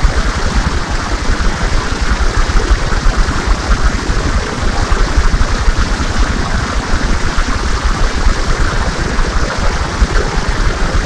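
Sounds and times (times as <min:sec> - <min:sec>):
distorted fountain water splashing: 0:00.0 - 0:11.0.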